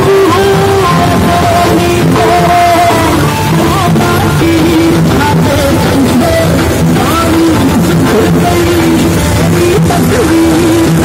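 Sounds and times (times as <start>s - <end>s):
song with singing and instruments: 0.0s - 11.0s.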